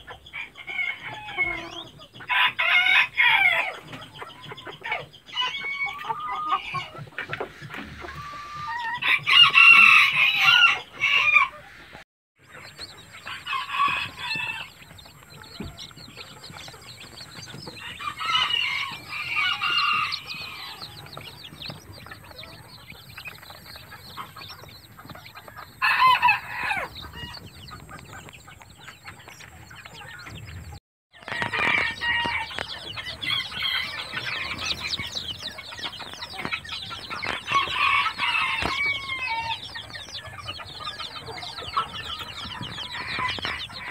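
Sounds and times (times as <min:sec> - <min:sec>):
chickens calling loudly: 0:00.0 - 0:43.9
chicks peeping: 0:00.0 - 0:43.9.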